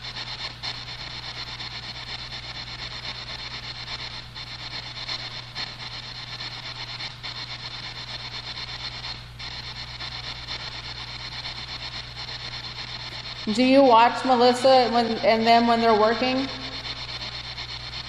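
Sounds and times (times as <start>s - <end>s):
low steady hum: 0.0s - 18.0s
pulsing radio static: 0.0s - 18.0s.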